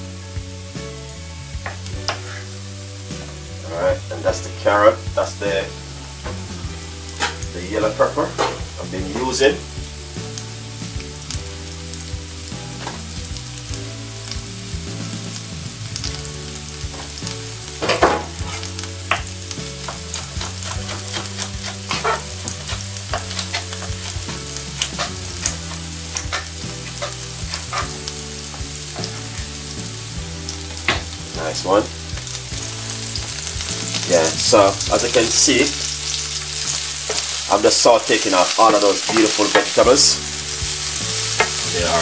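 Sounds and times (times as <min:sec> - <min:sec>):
vegetables sizzling in frying pan: 0:00.0 - 0:42.0
oil crackling and spitting: 0:06.1 - 0:42.0.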